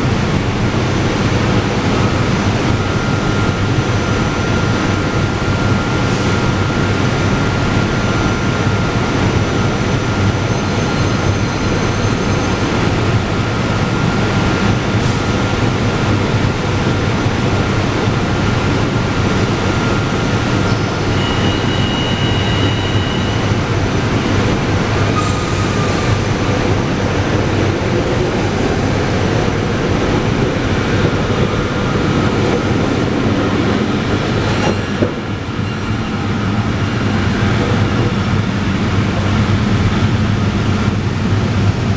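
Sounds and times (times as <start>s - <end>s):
train rail rumble: 0.0s - 41.9s.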